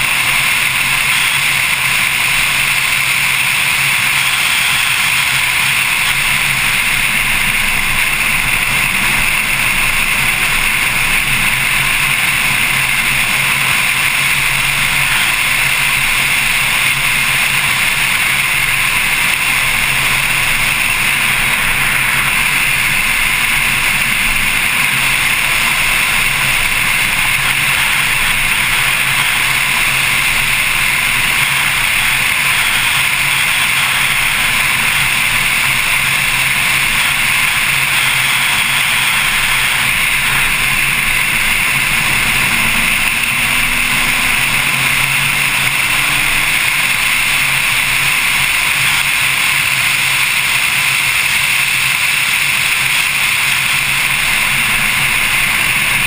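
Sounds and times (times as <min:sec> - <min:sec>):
faint car engine: 0:00.0 - 0:56.0.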